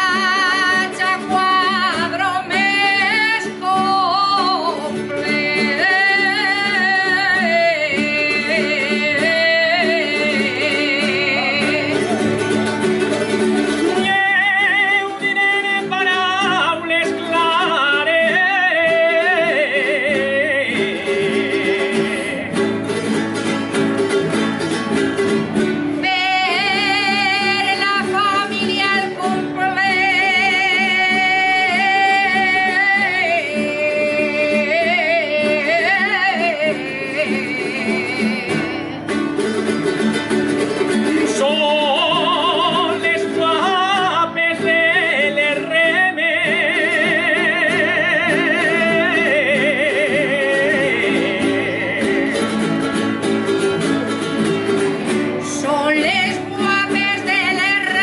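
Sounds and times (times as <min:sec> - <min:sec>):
high solo voice singing: 0:00.0 - 0:23.4, 0:25.9 - 0:39.8, 0:40.7 - 0:58.0
plucked-string accompaniment: 0:00.0 - 0:58.0.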